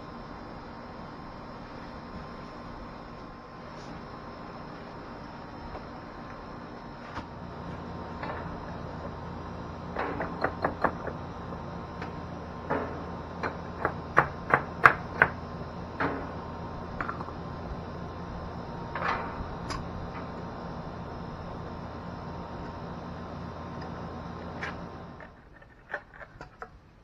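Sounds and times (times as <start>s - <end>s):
air conditioner hum: 0.0s - 27.0s.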